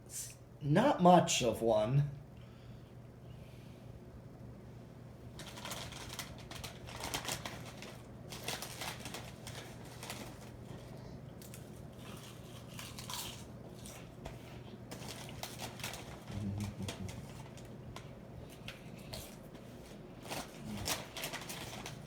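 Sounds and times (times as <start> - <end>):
ceiling fan motor humming: 0.0 - 22.0.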